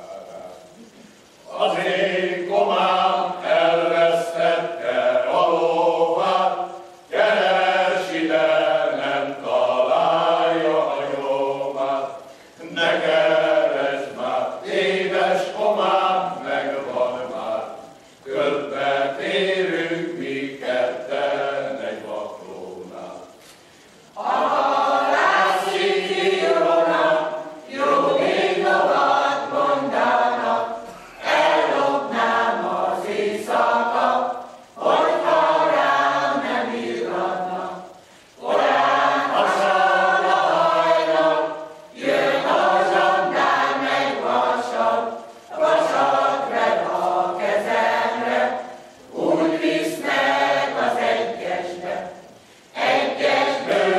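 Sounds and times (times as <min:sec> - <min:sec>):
mixed choir singing a folk song: 0:00.0 - 0:53.9.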